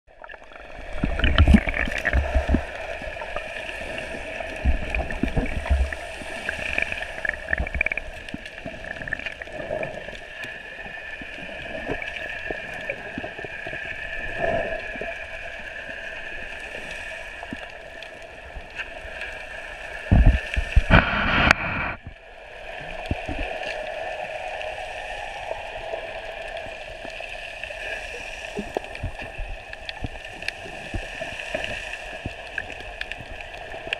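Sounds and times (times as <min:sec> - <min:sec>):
rush of water: 0:00.1 - 0:33.9
muffled underwater sea hiss: 0:00.5 - 0:33.9.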